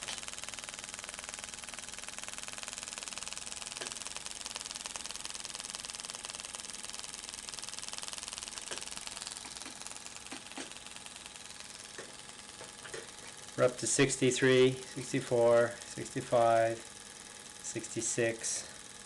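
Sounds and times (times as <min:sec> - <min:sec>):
motor buzz of rapid clicks: 0:00.0 - 0:19.0.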